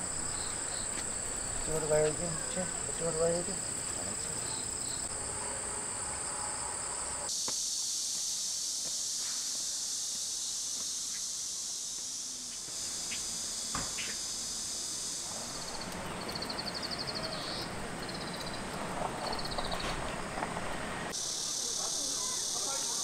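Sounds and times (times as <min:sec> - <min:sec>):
cicadas buzzing: 0:00.0 - 0:23.0
pulsing insect call: 0:00.0 - 0:23.0.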